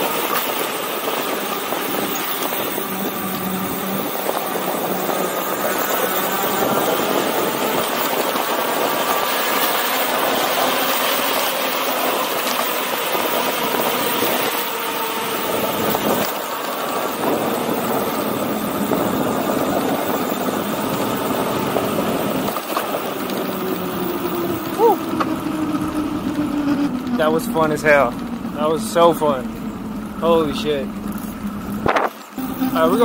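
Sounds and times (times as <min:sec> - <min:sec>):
electric motor whine: 0:00.0 - 0:33.0
tyre roar on concrete: 0:00.0 - 0:33.0.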